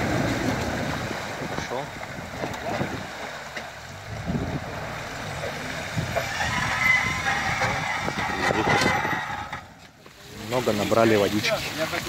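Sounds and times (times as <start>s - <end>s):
engine pulling hard: 0.0s - 9.8s
wheels churning through mud: 0.0s - 12.0s.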